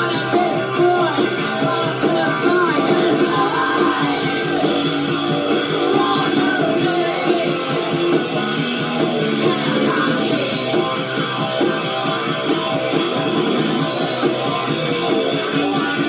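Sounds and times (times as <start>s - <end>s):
electric guitar: 0.0s - 16.0s
punk rock band playing: 0.0s - 16.0s.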